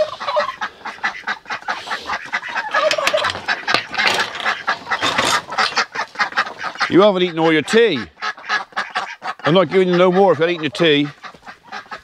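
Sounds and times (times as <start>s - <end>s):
ducks and poultry calling: 0.0s - 12.0s.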